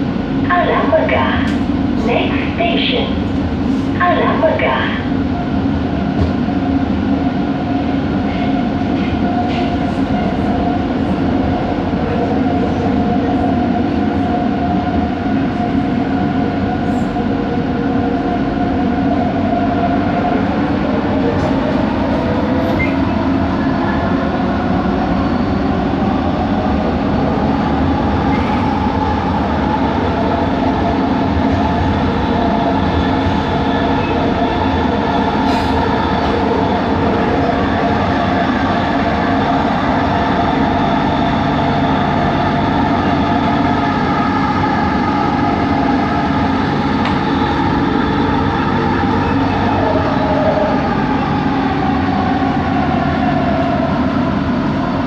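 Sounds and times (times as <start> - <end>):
metro car rumble: 0.0 - 55.0.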